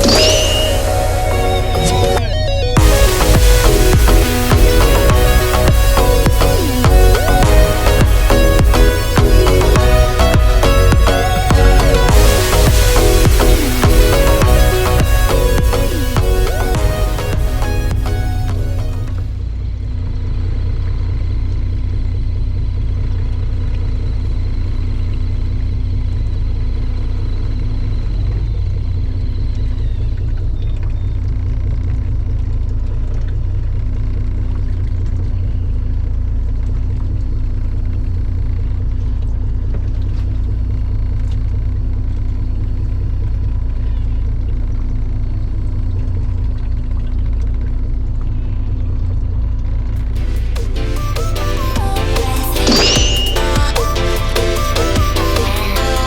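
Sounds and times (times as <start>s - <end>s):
boat engine rumbling: 0.0s - 56.0s.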